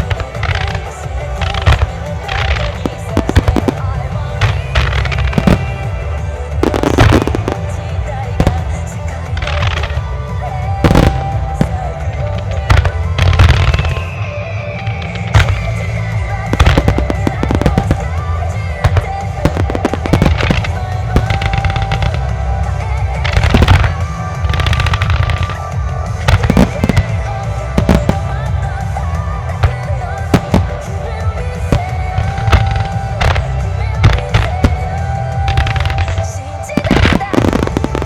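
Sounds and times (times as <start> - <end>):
fireworks bursting in bangs: 0.0 - 14.2, 15.0 - 38.0
music: 0.0 - 38.0
rapid fireworks crackling: 0.0 - 38.0.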